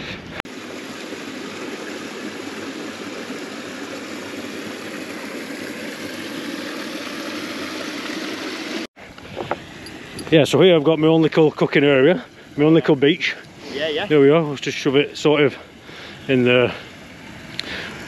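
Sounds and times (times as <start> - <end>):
stream running: 0.5 - 18.0.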